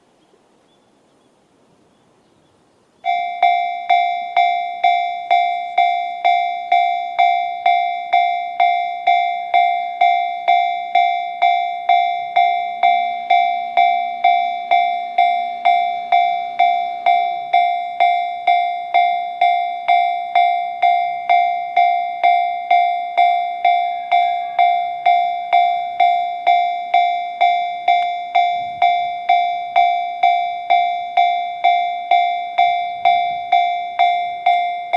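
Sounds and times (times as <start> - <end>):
level-crossing alarm ringing: 3.0 - 34.9.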